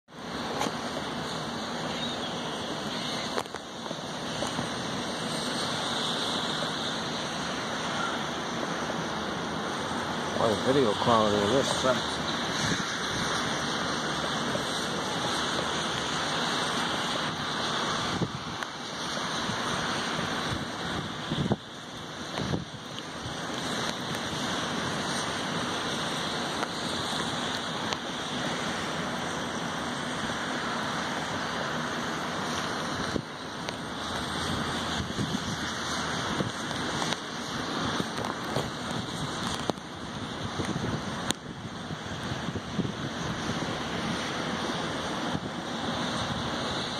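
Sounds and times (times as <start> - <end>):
wind and rain on microphone: 0.0 - 46.9
outdoor background hiss: 0.1 - 46.9.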